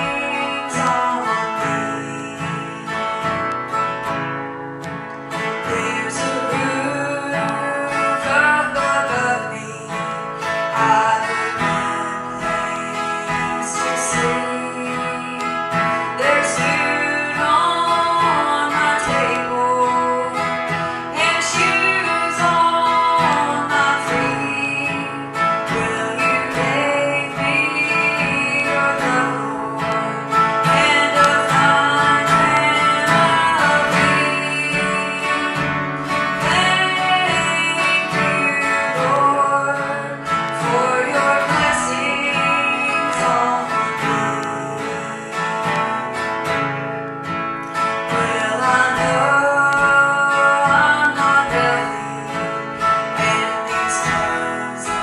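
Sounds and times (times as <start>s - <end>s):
person singing: 0.0s - 55.0s
strummed acoustic guitar: 0.0s - 55.0s.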